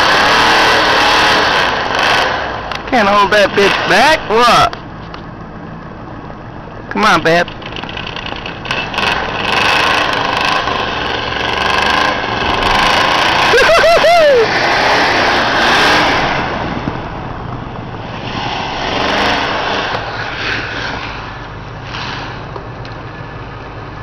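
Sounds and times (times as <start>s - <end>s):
truck engine revving hard: 0.0s - 4.7s, 7.4s - 22.5s.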